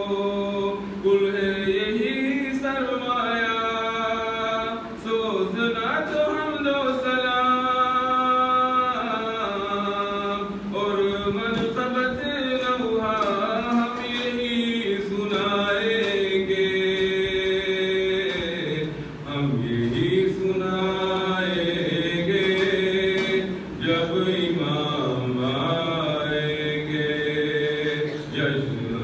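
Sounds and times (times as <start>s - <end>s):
man chanting unaccompanied: 0.0s - 29.0s.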